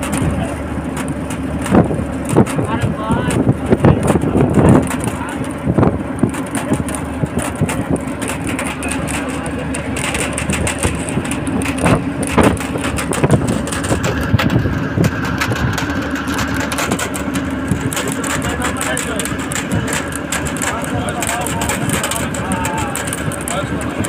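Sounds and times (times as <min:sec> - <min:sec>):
bus engine drone: 0:00.0 - 0:24.0
rattles and knocks: 0:00.0 - 0:24.0
road and wind noise: 0:00.0 - 0:24.0.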